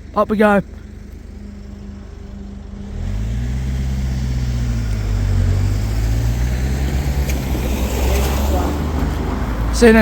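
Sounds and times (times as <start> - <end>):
vehicle engine pulling away: 0.0 - 10.0.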